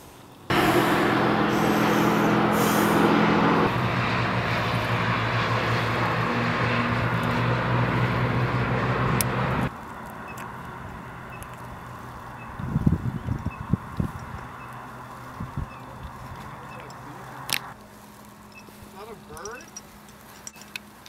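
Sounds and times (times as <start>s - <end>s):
motorcycle engines droning: 0.5s - 21.0s.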